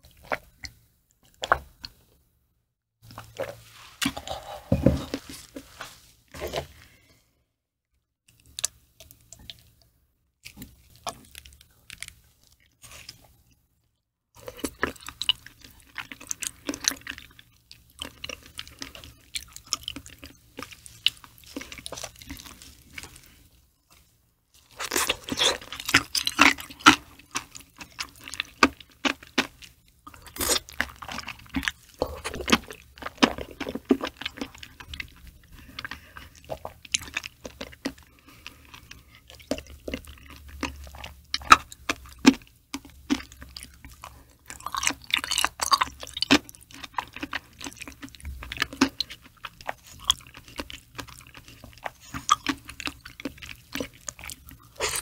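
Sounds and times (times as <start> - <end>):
close chewing mouth sounds: 0.0 - 2.0, 8.3 - 13.6, 14.4 - 55.0.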